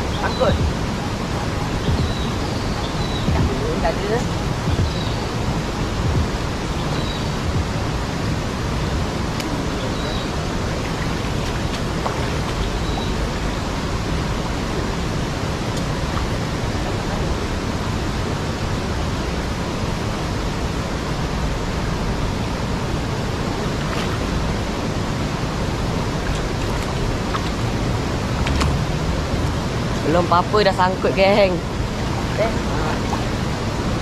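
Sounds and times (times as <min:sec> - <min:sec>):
rain hissing: 0:00.0 - 0:34.0.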